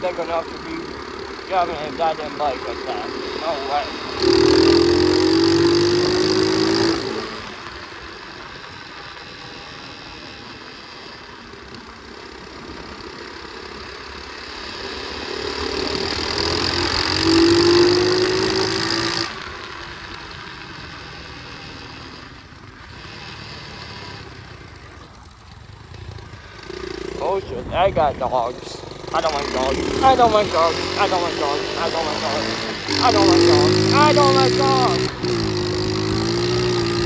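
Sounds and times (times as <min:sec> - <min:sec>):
pit bike engine revving: 0:00.0 - 0:37.0.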